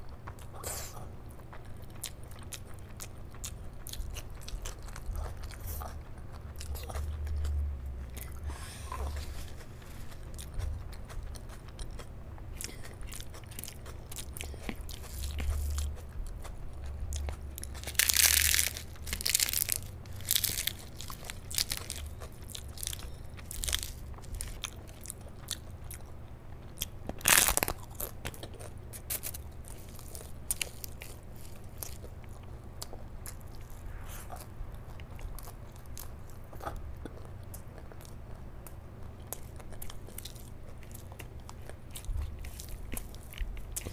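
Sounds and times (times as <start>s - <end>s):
wet chewing with mouth clicks: 0.0s - 43.9s.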